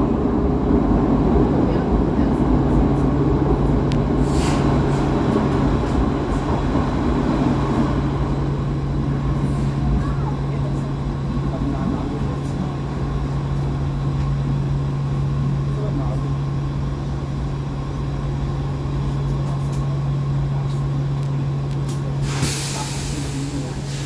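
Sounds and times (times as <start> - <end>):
steady low train hum: 0.0 - 24.0.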